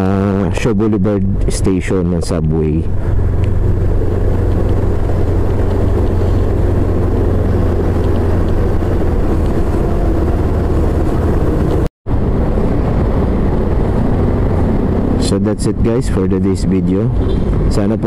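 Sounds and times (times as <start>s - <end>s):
motorcycle engine rumble: 0.0s - 18.0s
road noise: 0.0s - 18.0s.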